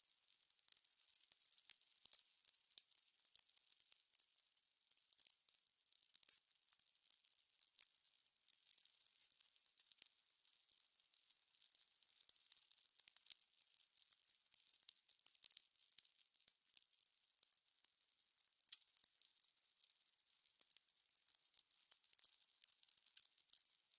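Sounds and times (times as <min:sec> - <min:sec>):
fire crackling and popping: 0:00.0 - 0:23.9.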